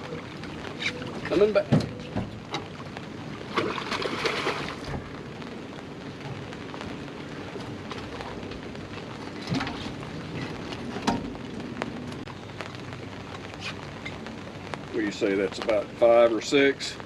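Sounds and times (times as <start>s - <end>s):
rain pattering on surfaces: 0.0s - 17.0s.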